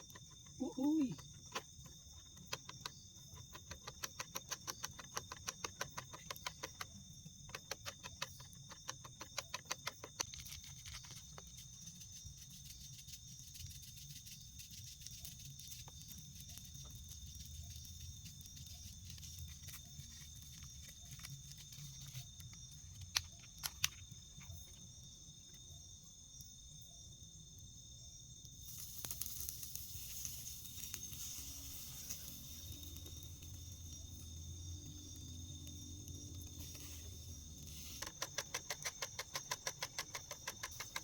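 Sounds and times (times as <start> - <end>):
sharp irregular clicks and snaps: 0.0 - 24.8, 28.4 - 41.0
insects trilling: 0.0 - 41.0.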